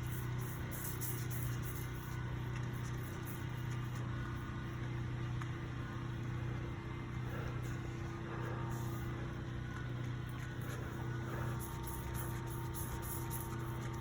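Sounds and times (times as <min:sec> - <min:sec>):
carpet cleaning machine humming: 0:00.0 - 0:14.0.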